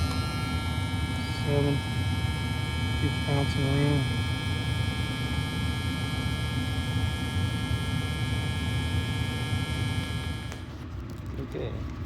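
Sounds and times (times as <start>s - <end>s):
high whine: 0.0s - 10.6s
gas furnace humming: 0.0s - 12.0s.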